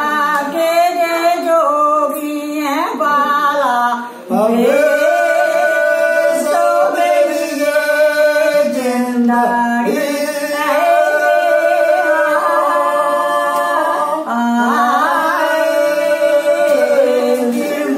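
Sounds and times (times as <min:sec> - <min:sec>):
woman and man singing unaccompanied: 0:00.0 - 0:17.9.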